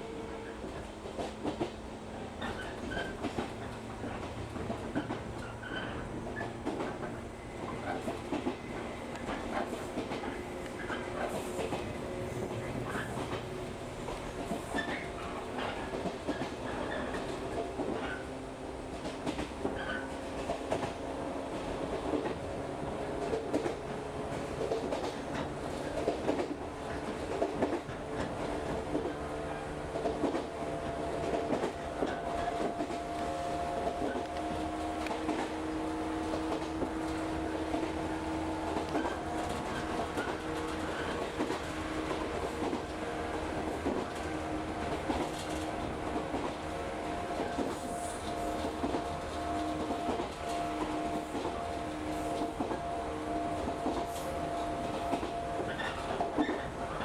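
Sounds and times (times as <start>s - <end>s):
train rolling rumble and hum: 0.0s - 57.0s.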